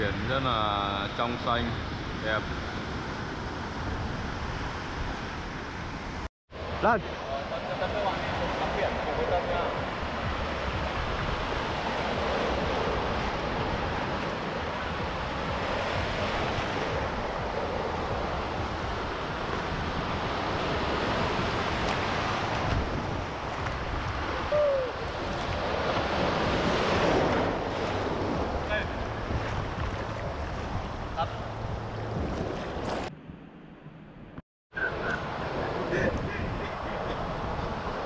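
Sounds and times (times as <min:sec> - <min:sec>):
ocean waves breaking: 0:00.0 - 0:33.7, 0:34.8 - 0:38.0.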